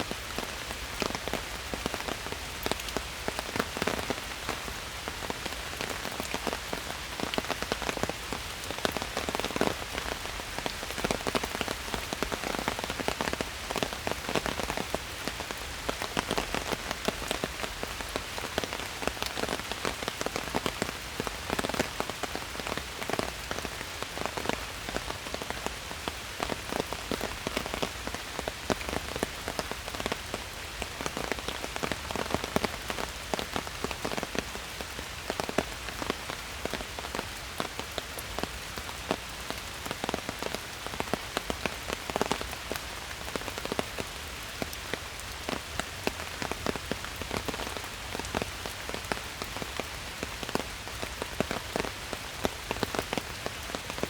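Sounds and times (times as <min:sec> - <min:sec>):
steady rain in forest: 0:00.0 - 0:54.0.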